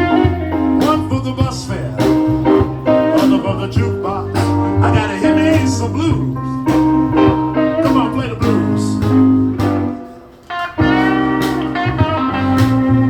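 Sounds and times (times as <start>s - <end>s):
blues band playing: 0.0s - 13.0s
guitar line: 0.0s - 13.0s.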